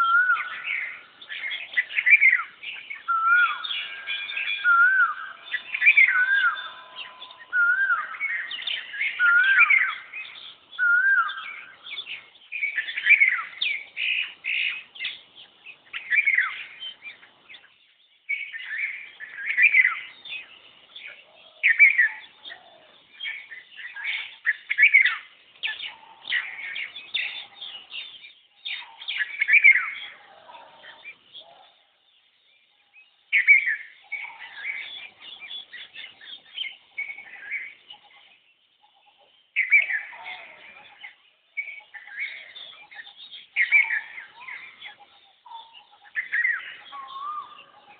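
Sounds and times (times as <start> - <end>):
wavering whistled bird notes: 0.0 - 15.2, 18.3 - 47.9
birds chirping and calling: 0.0 - 47.9.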